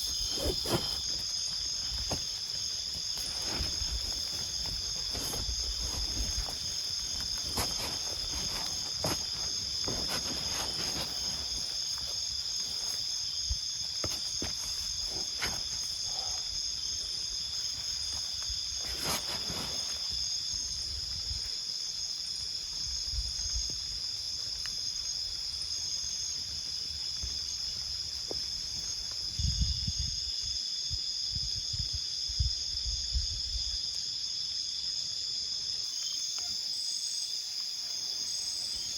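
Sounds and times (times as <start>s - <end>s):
insects calling: 0.0s - 38.9s.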